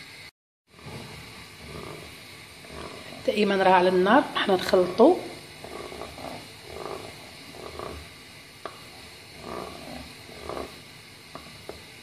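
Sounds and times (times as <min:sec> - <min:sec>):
wooden spoon stirring in saucepan: 0:00.7 - 0:12.0.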